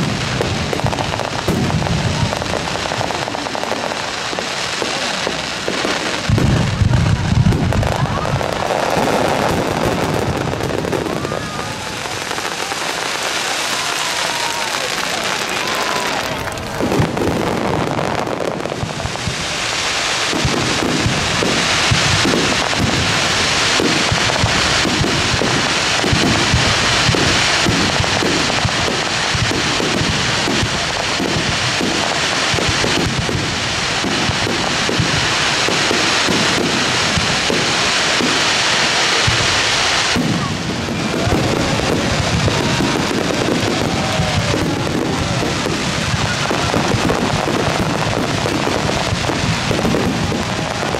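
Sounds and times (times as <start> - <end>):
fireworks bursts and crackling: 0.0 - 50.9.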